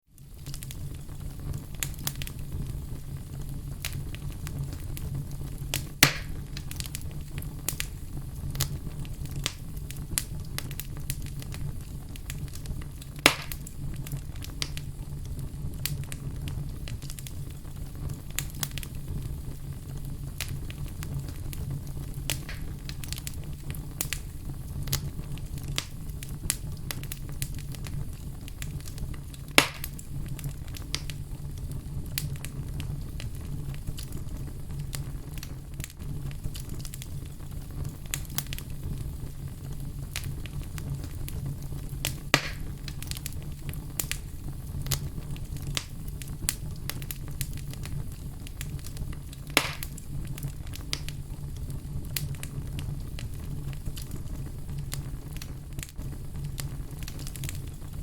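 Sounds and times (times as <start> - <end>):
fire crackling: 0.0 - 58.0
low fire rumble: 0.0 - 58.0
loud fire pops: 0.2 - 58.0.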